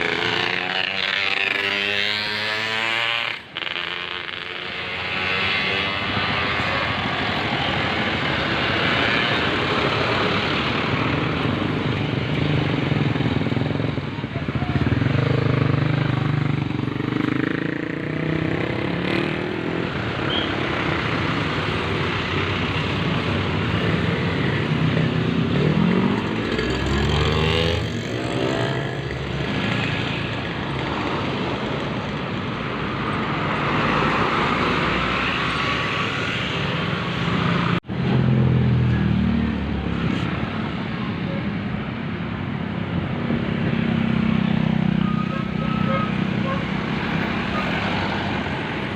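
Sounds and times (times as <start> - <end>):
vehicles passing: 0.0 - 48.9.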